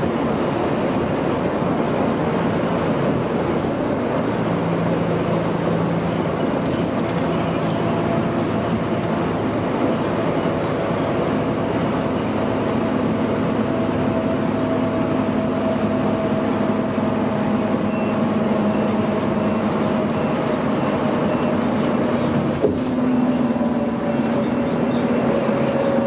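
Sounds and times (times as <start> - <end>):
bus engine droning: 0.0 - 26.0
road noise: 0.0 - 26.0.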